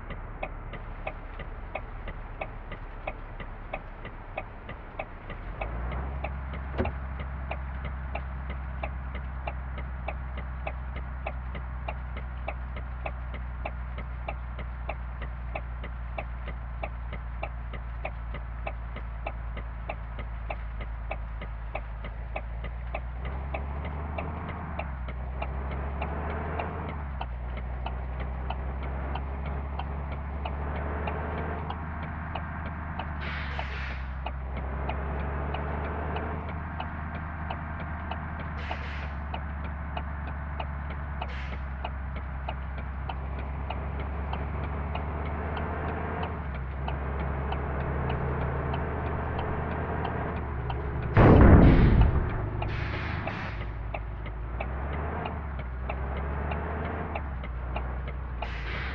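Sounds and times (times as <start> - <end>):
bus engine droning: 0.0 - 58.9
regular ticking: 0.0 - 58.9.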